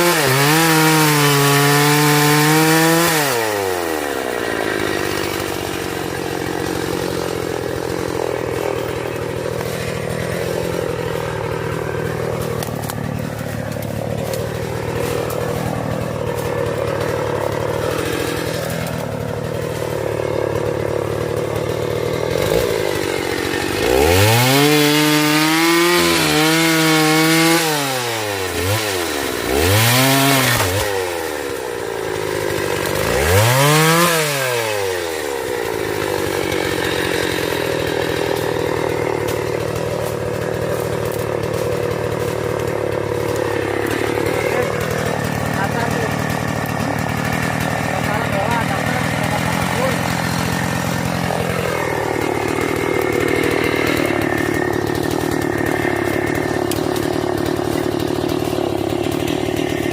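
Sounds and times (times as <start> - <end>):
chainsaw idling and revving: 0.0 - 59.9.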